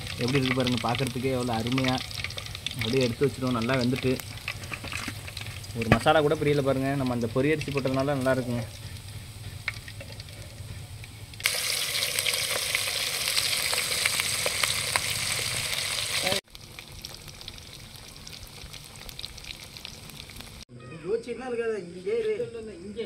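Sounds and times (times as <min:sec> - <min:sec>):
chicken deep-frying in oil: 0:00.0 - 0:20.7.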